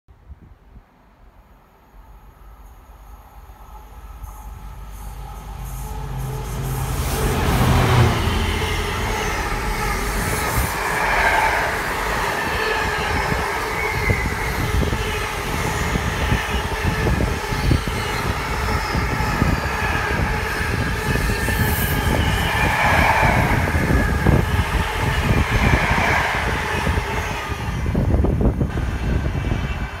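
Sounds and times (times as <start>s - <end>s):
freight train wheels rumbling: 2.2s - 30.0s
wavering wheel squeal: 3.9s - 28.0s.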